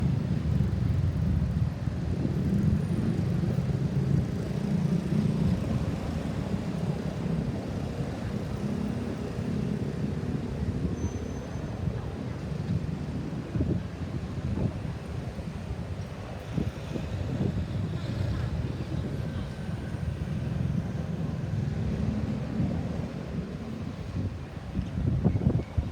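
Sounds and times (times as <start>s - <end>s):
road traffic rumble: 0.0s - 25.6s.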